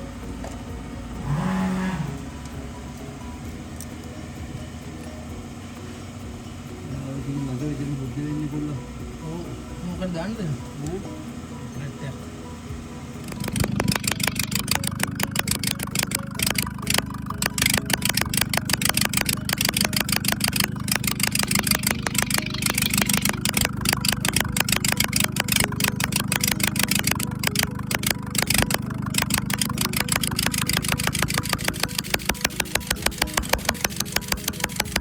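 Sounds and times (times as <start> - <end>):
diesel engine idling: 0.0 - 35.0
uneven exhaust pulsing: 0.0 - 35.0.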